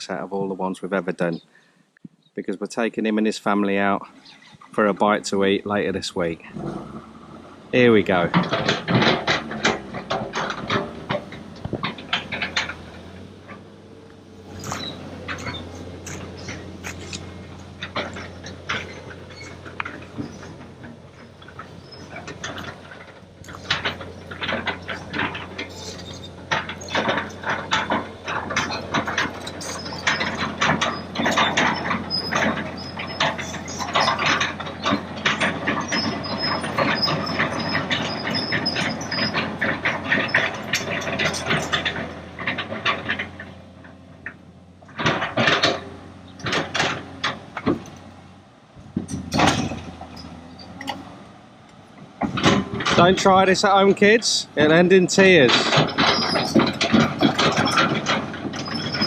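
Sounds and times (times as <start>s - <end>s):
diesel engine humming: 0.0s - 59.0s
metallic clanks and knocks: 3.6s - 59.0s.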